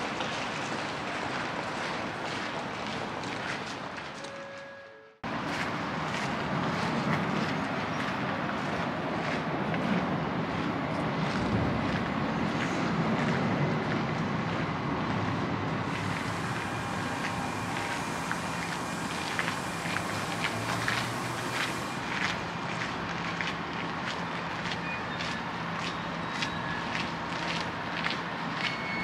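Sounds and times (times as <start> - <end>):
train running on tracks: 0.0 - 29.0.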